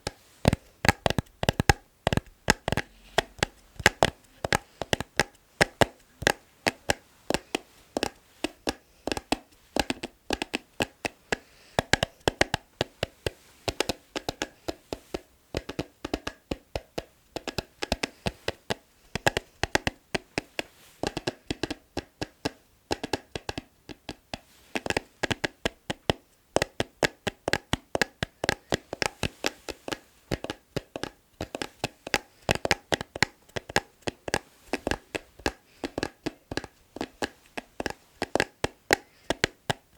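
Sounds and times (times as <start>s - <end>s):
fingers tapping on an object: 0.0s - 39.9s.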